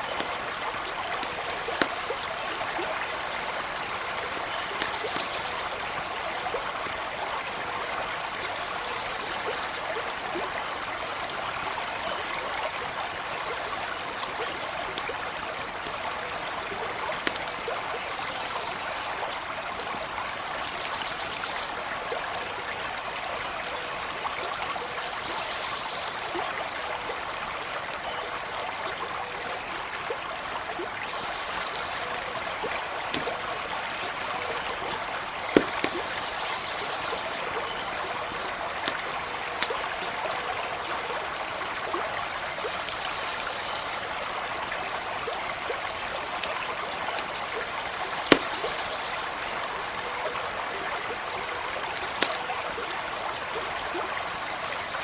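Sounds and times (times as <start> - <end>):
campfire crackles: 0.0 - 55.0
stream running over stones: 0.0 - 55.0.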